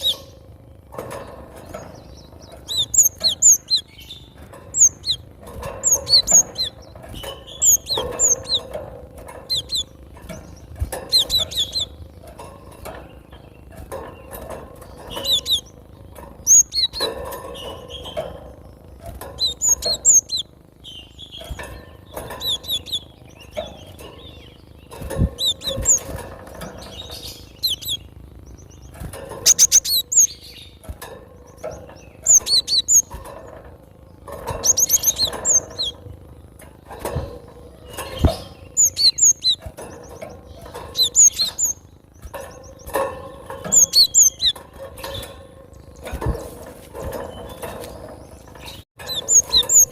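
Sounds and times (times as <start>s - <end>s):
bird chirping: 0.0s - 49.9s.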